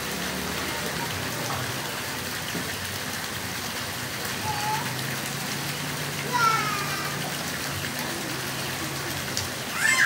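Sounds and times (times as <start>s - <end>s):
waterfall splashing into pool: 0.0s - 10.0s.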